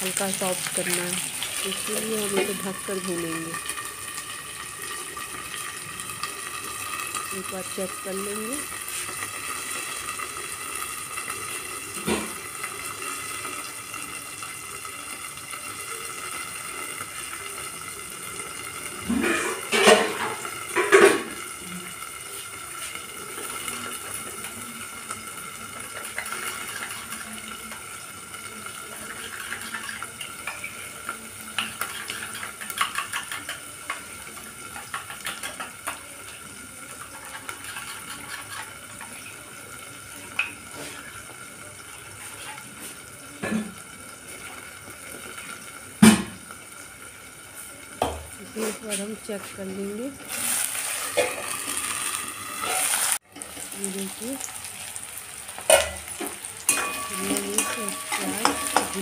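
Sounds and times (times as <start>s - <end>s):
muffled sizzle of frying vegetables: 0.0s - 59.0s.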